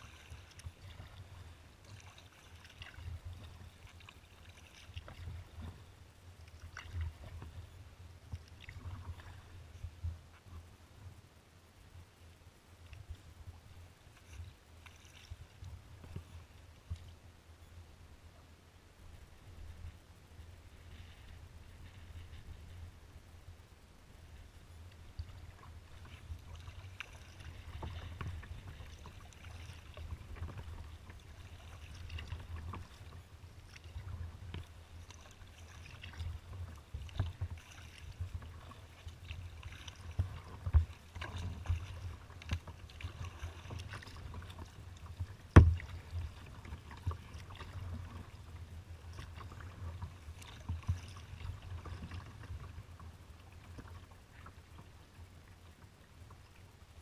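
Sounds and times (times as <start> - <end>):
paddle blades splashing: 0.0 - 10.7, 12.8 - 17.3, 19.4 - 56.6
water lapping at hull: 0.0 - 57.0.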